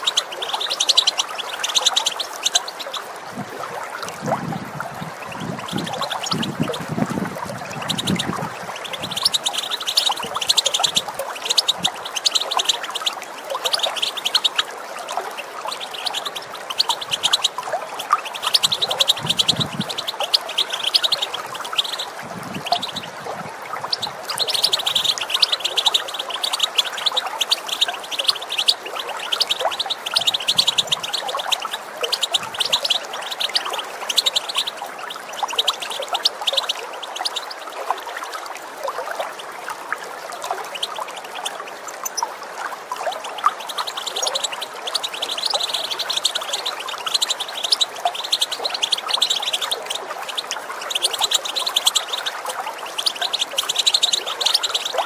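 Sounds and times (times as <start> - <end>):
goldfinch twittering: 0.0 - 39.3, 40.3 - 55.0
running water rushing: 0.0 - 55.0.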